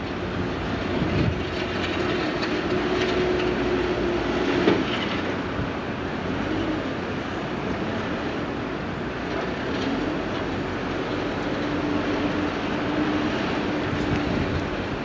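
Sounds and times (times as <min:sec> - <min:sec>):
broad rushing noise: 0:00.0 - 0:15.0
heavy engine humming: 0:00.0 - 0:15.0.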